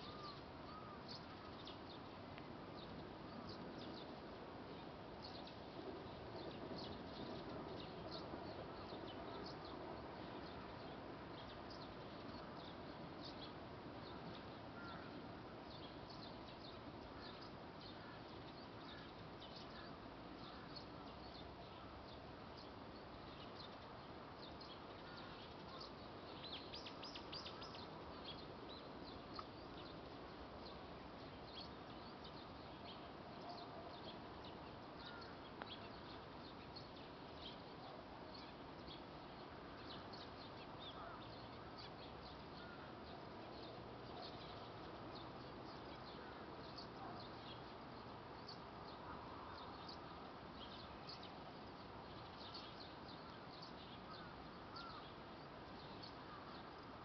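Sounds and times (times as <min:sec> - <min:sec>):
low background noise: 0:00.0 - 0:57.0
birds chirping: 0:06.4 - 0:57.0.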